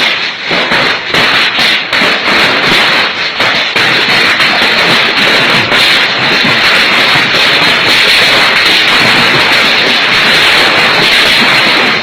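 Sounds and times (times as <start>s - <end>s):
hail clattering on hard surface: 0.0s - 12.0s.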